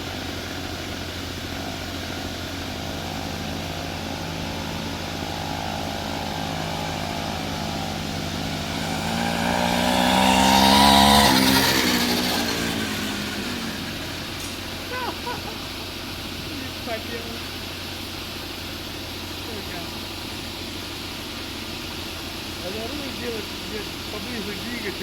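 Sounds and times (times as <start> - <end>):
chainsaw engine running: 0.0 - 25.0.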